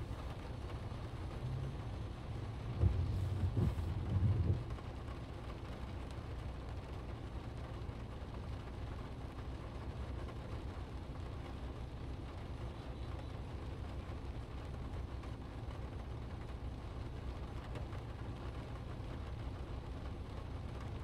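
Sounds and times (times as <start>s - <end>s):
car engine and road noise: 0.0s - 21.0s
rain hissing on car: 0.0s - 21.0s.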